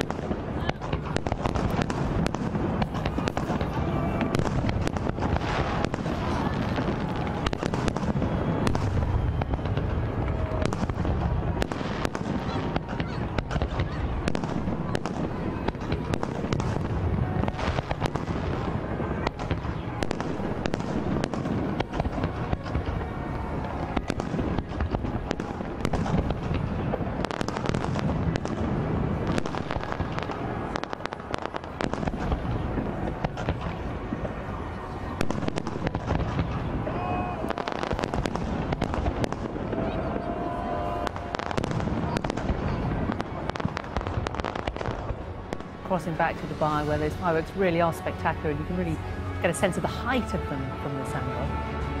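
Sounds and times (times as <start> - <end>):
continuous rumble: 0.0 - 52.0
fireworks bangs and crackles: 0.0 - 52.0.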